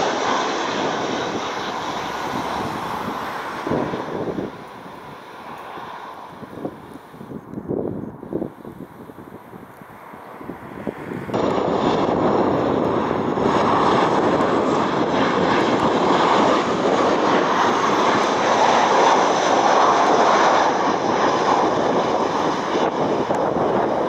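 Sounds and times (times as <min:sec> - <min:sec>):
jet airliner engines roaring: 0:00.0 - 0:24.0.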